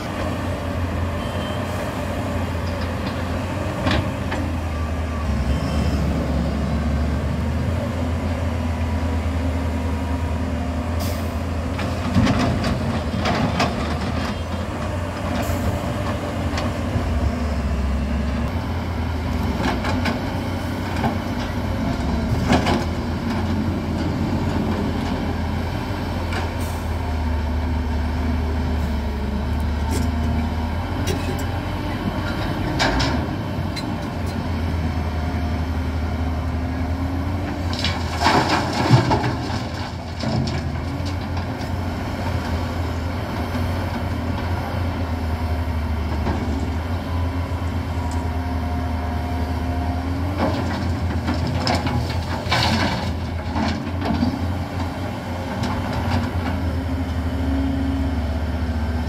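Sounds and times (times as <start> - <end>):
heavy diesel engines rumbling: 0.0 - 59.0.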